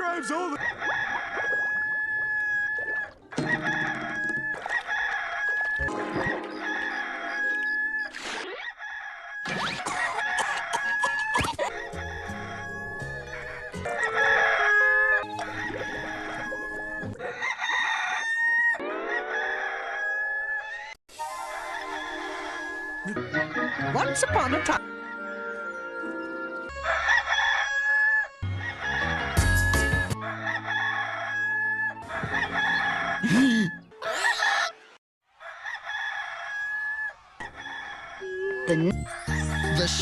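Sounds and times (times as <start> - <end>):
rooster crowing: 0.0 - 5.8, 6.6 - 23.9, 26.7 - 33.3, 35.4 - 40.0.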